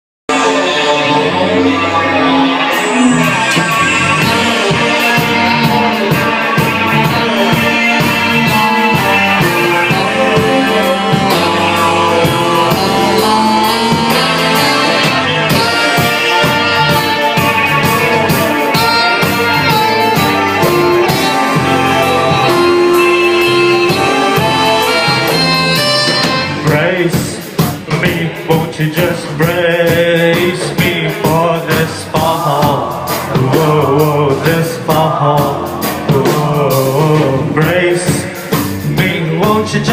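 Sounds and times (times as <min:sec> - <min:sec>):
live rock band playing: 0:00.3 - 0:39.9
person singing: 0:00.3 - 0:39.9.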